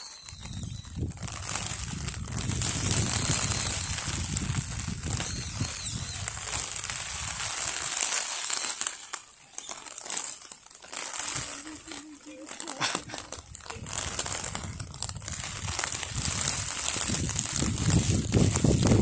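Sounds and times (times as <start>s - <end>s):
crinkly rustling at microphone: 0.0s - 19.0s.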